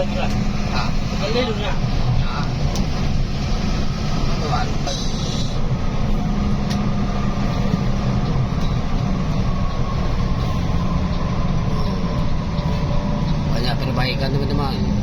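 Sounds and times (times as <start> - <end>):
bus engine and road drone: 0.0 - 15.0.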